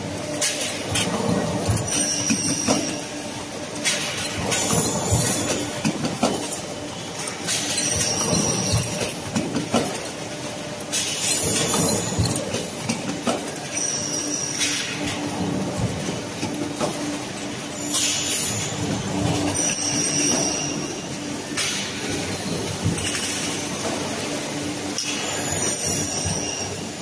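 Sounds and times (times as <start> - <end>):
machinery metallic clatter: 0.0 - 27.0.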